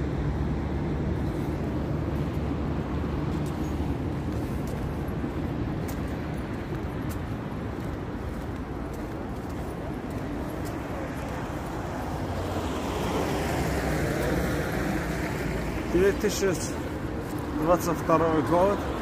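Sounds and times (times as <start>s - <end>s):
passing cars rumbling: 0.0s - 19.0s.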